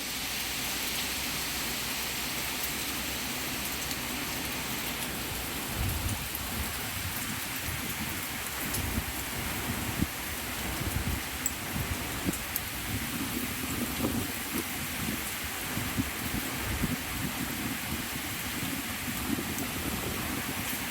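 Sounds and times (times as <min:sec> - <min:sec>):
torrential rain pouring: 0:00.0 - 0:20.9.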